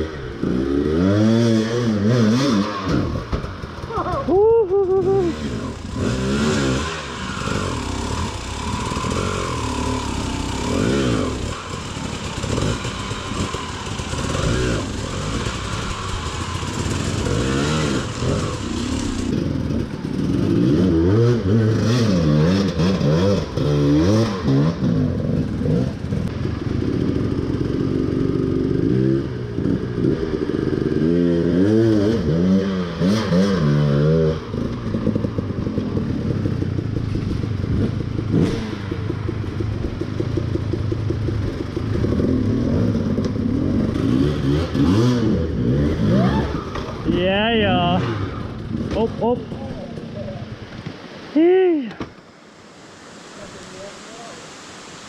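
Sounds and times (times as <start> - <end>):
dirt bike engine revving: 0.0 - 50.8.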